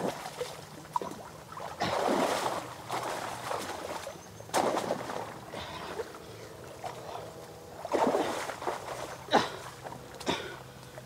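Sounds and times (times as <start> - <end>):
water splashing by hands: 0.0 - 11.0.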